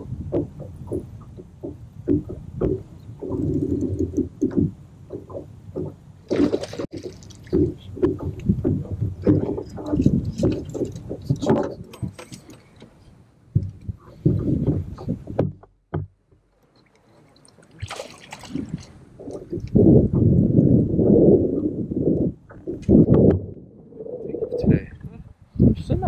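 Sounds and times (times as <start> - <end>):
water splashing: 0.0 - 15.6, 16.6 - 24.9.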